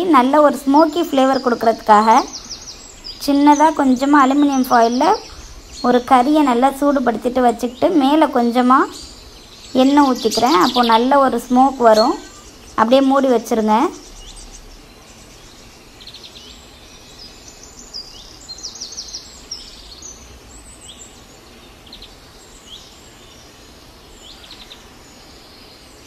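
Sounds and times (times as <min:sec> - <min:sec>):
faint steady background noise: 0:00.0 - 0:26.0
small birds chirping: 0:00.0 - 0:26.0.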